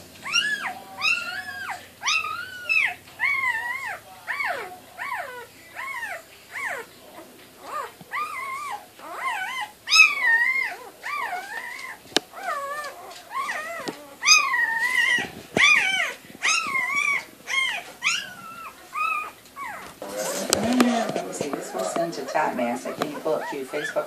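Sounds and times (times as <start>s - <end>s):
puppies whining and squealing: 0.0s - 24.0s.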